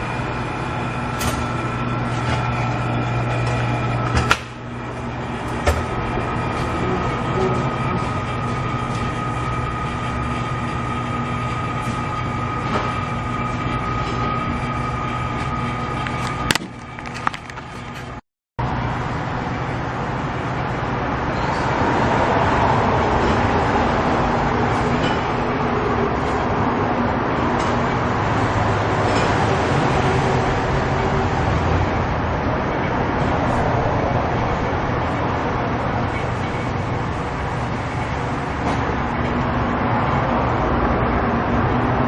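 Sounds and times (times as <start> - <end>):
machinery humming and whining: 0.0 - 42.0.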